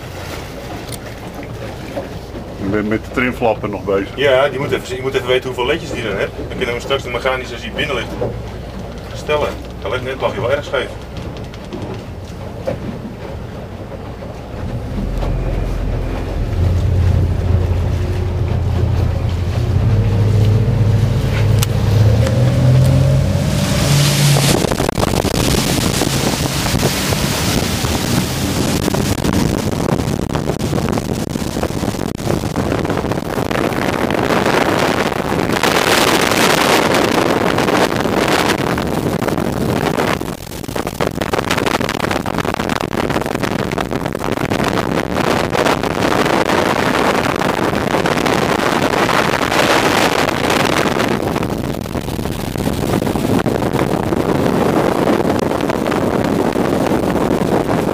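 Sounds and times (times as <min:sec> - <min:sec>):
water rushing from boat wake: 0:00.0 - 0:57.9
wind buffeting microphone: 0:00.0 - 0:57.9.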